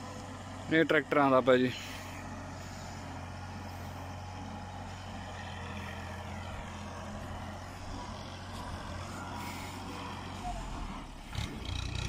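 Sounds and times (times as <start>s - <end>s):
distant tractor engine humming: 0.0s - 12.0s.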